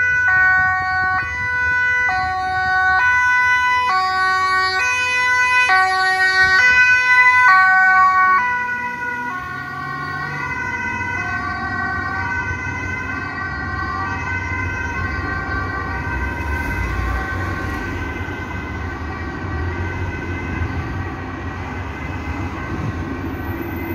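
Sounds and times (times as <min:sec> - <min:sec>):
low traffic rumble: 0:00.0 - 0:23.9
two-tone ambulance siren: 0:00.0 - 0:23.9.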